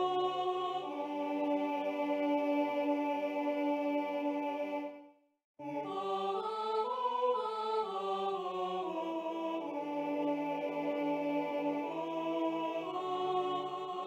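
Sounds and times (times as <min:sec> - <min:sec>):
synthesized choir chords: 0:00.0 - 0:14.0.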